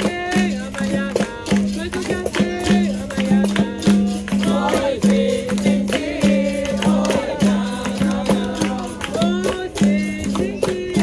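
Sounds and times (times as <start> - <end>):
group singing call-and-response: 0.0 - 11.0
pandeiro jingles and strokes: 0.0 - 11.0.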